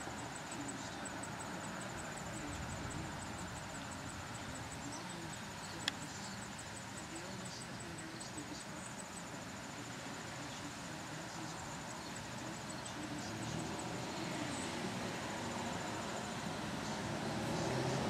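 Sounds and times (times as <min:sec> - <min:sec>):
insect chirping: 0:00.0 - 0:18.0
steady outdoor hiss: 0:00.0 - 0:18.0.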